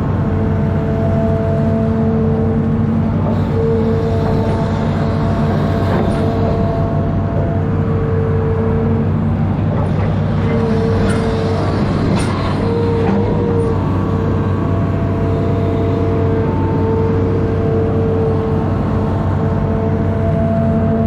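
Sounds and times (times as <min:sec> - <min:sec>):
diesel engine running: 0:00.0 - 0:21.0
high steady whine: 0:00.0 - 0:21.0.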